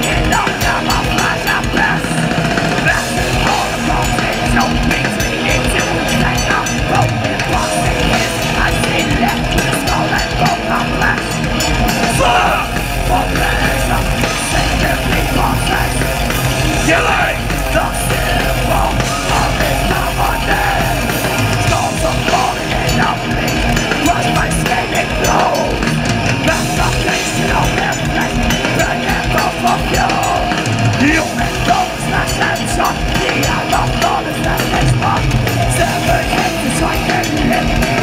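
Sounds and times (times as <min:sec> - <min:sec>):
thrash metal band playing live: 0:00.0 - 0:38.0.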